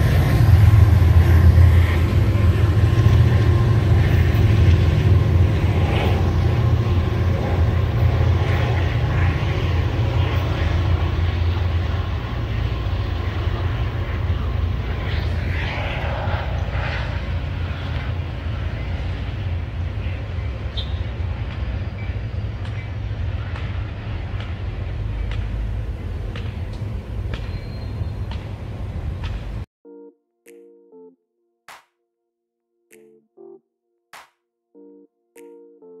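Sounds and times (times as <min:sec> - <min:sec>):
diesel locomotive engines droning: 0:00.0 - 0:29.7.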